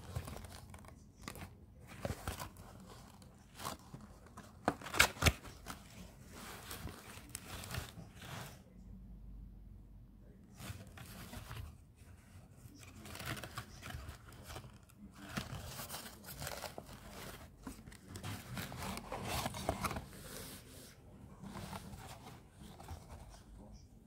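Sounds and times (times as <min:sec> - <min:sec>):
paperboard box rustling and scraping: 0:00.0 - 0:08.6, 0:10.6 - 0:23.6.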